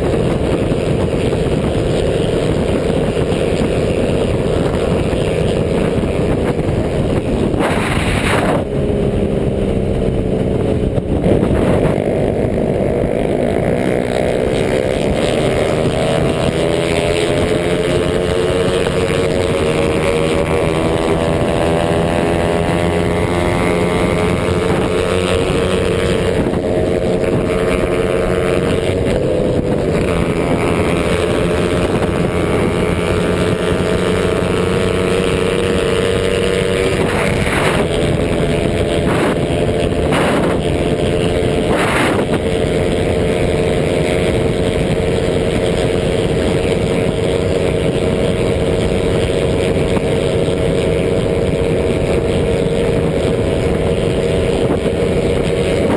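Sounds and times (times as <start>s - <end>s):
motorcycle engine running: 0.0s - 55.9s
wind noise on microphone: 0.0s - 55.9s.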